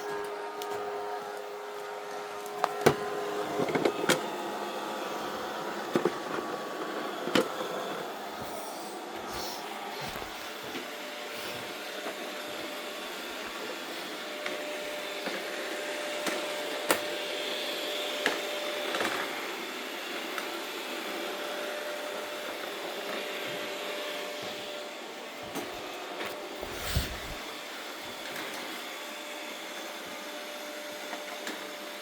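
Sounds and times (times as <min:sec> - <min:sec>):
robot vacuum cleaner whirring: 0:00.0 - 0:32.0.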